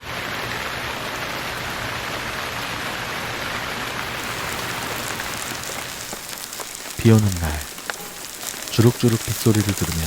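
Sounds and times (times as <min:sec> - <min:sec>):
steady rain pouring: 0:00.0 - 0:10.0.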